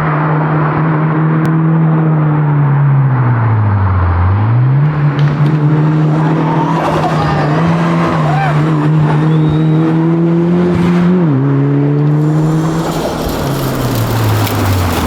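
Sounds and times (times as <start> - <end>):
car engine revs falling and rising: 0.0 - 15.0.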